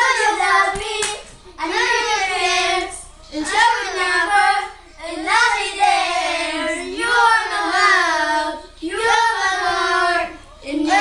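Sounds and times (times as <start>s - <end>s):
children singing: 1.6s - 11.0s.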